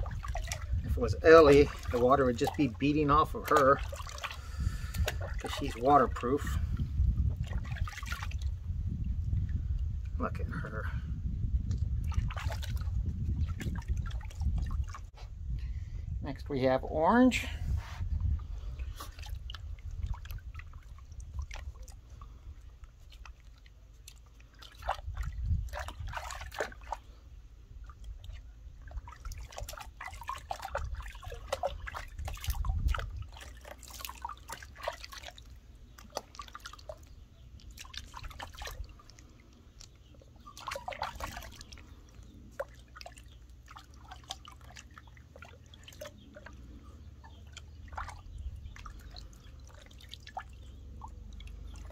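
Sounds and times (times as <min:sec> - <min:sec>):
water splashing in plastic tub: 0:00.0 - 0:15.2, 0:18.2 - 0:51.9.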